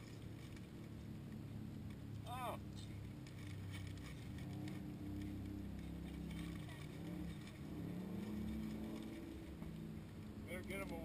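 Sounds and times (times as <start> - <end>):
distant engines droning: 0.0 - 11.0.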